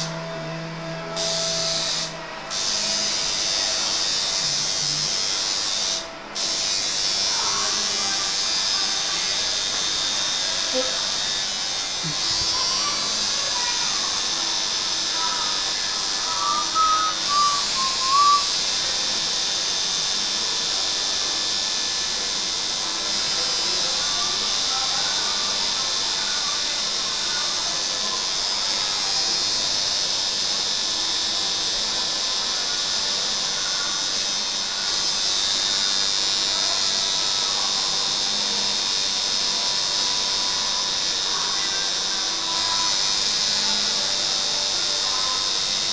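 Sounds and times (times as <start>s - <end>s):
faint music: 0.0s - 45.9s
tattoo machine buzzing: 0.0s - 45.9s.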